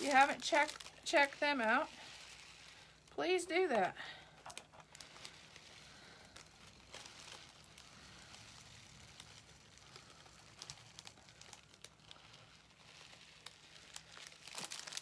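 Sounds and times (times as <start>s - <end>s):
faint rustling: 0.0s - 15.0s.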